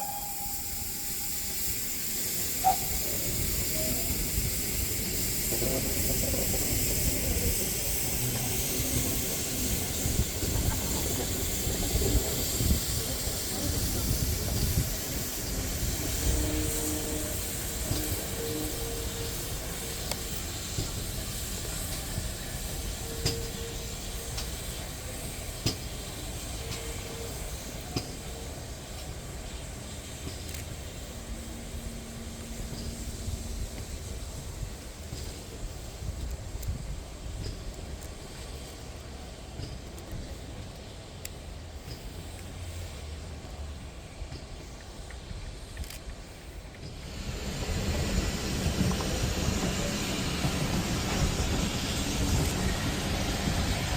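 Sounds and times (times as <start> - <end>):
steam locomotive hissing: 0.0 - 53.9.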